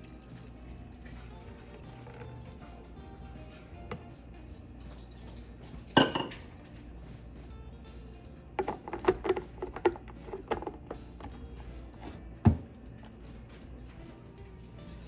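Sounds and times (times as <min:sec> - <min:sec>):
containers clinking: 0:00.0 - 0:07.4, 0:08.0 - 0:15.0
background music: 0:00.0 - 0:15.0.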